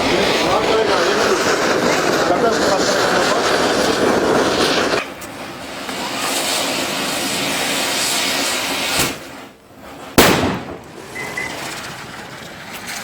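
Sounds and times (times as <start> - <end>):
firework hissing loudly: 0.0 - 13.0.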